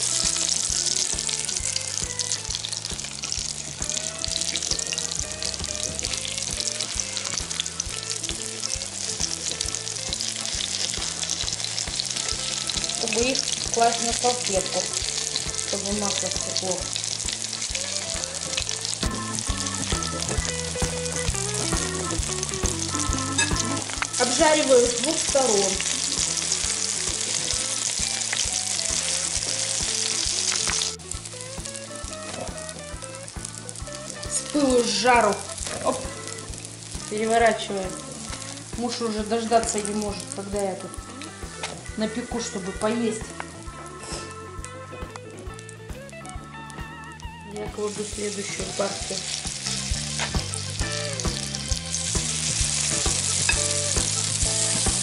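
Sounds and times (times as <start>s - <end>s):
background music: 0.0s - 55.0s
fritters sizzling in hot oil: 0.0s - 55.0s.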